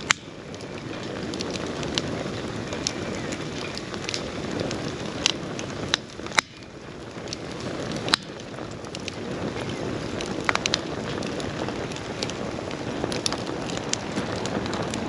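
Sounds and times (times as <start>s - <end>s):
campfire rushing: 0.0s - 15.0s
fire crackling and popping: 0.0s - 15.0s.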